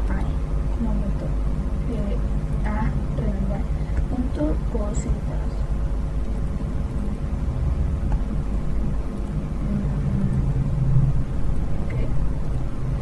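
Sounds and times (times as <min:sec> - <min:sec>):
faint constant hum: 0:00.0 - 0:13.0
low rumble: 0:00.0 - 0:13.0.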